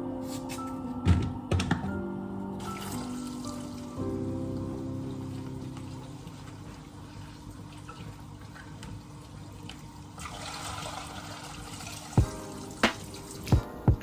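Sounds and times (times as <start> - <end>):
faint background music: 0.0 - 14.0
running water: 2.6 - 14.0.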